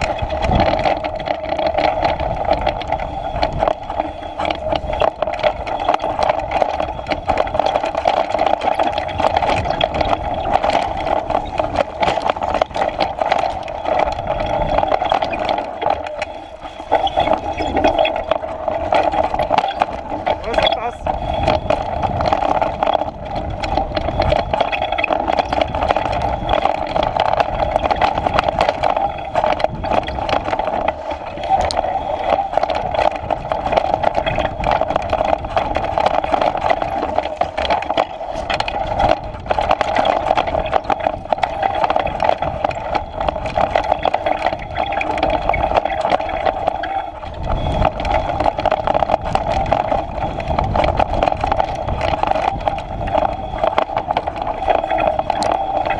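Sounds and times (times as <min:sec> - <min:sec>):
bike rattling and knocking: 0:00.0 - 0:55.9
bike tyres rolling on dirt: 0:00.0 - 0:55.9.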